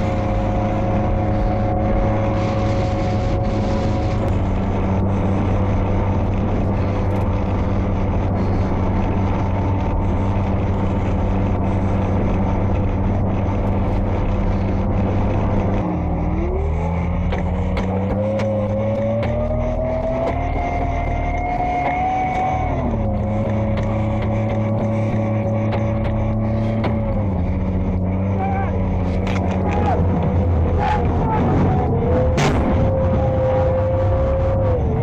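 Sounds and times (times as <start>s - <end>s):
tracked vehicle engine drone: 0.0s - 35.0s.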